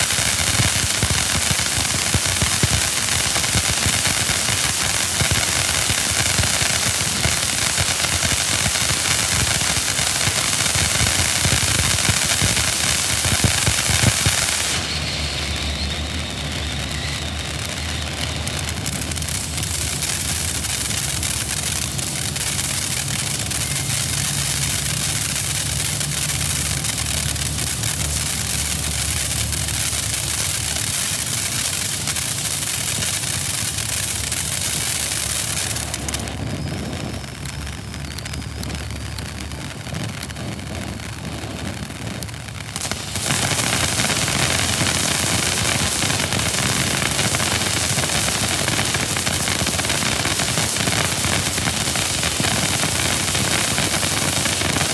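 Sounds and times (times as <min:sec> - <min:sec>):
firework fountain hissing and crackling: 0:00.0 - 0:54.9.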